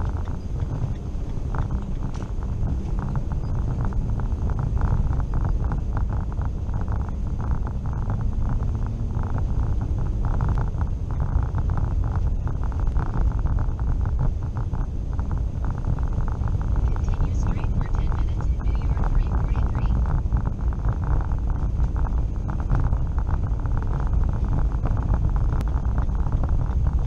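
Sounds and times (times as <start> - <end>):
car engine and tyres rumbling: 0.0 - 27.0
tyres crackling on snow: 0.0 - 27.0.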